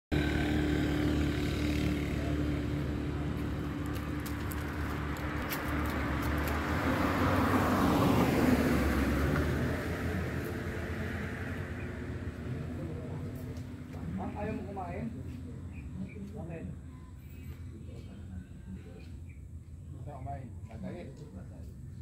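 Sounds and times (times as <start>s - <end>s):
vehicle passing: 0.1s - 19.3s
road traffic rumble: 0.1s - 22.0s.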